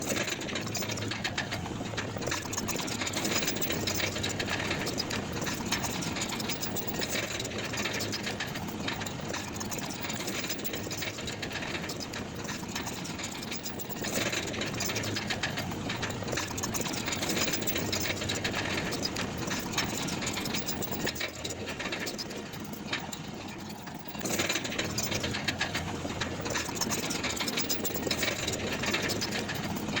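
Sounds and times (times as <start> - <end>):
diesel engine rattling clatter: 0.0 - 30.0.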